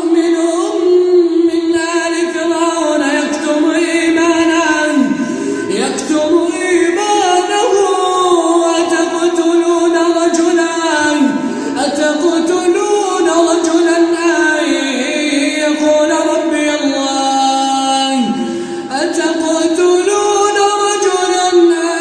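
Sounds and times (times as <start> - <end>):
man reciting melodically: 0.0 - 22.0.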